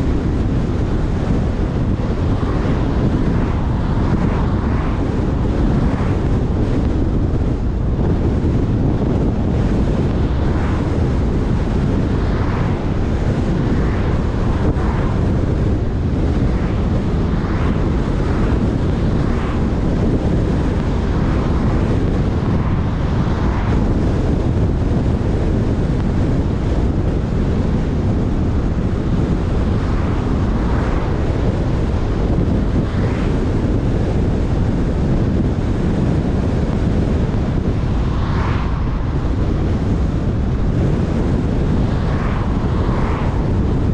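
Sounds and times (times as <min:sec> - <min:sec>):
car driving rumble: 0:00.0 - 0:43.9
wind buffeting microphone: 0:00.0 - 0:43.9.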